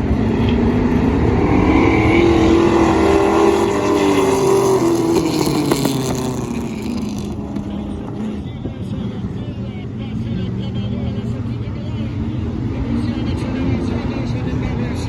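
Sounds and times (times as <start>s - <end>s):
race cars passing at full throttle: 0.0s - 15.0s.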